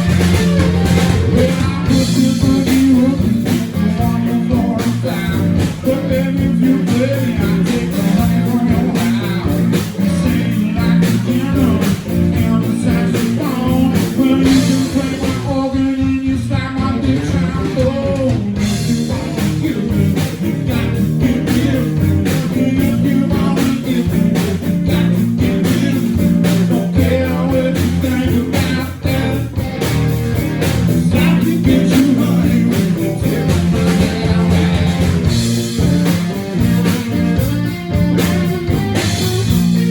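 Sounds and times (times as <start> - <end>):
electric guitar: 0.0 - 39.9
live blues-rock band playing: 0.0 - 39.9.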